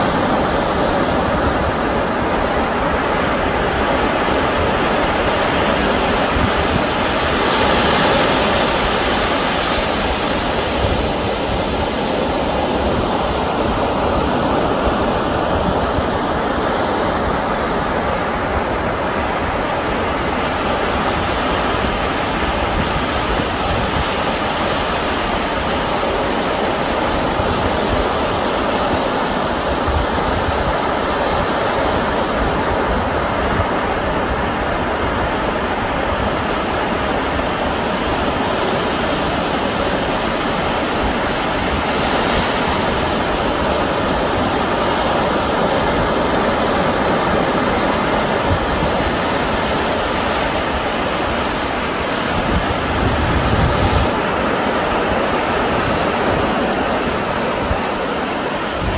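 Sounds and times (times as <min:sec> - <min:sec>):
sea surf breaking: 0:00.0 - 0:58.9
wind rumble on microphone: 0:00.0 - 0:58.9.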